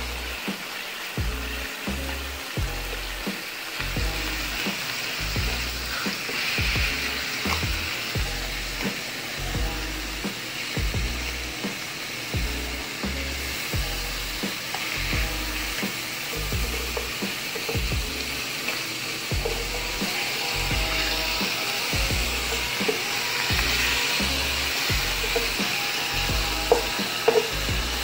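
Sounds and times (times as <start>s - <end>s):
background music with steady beat: 0.0s - 28.0s
fish fillets sizzling in hot oil: 0.0s - 28.0s.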